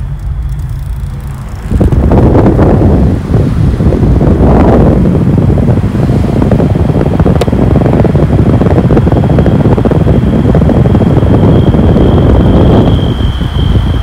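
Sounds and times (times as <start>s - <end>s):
car rumbling along road: 0.0s - 14.0s
thin high whine: 0.0s - 14.0s
wind buffeting microphone: 0.0s - 14.0s.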